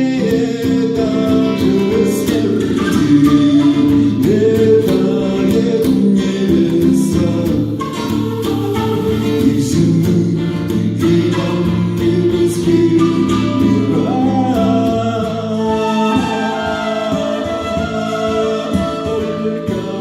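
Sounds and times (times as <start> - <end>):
guitar: 0.0 - 20.0
person singing: 0.0 - 20.0.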